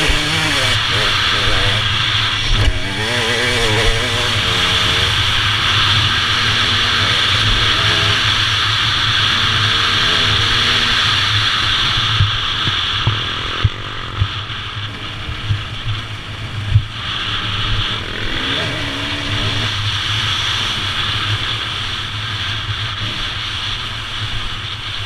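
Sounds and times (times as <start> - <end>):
motorcycle engine running: 0.0 - 25.0
wind noise on microphone: 0.0 - 25.0.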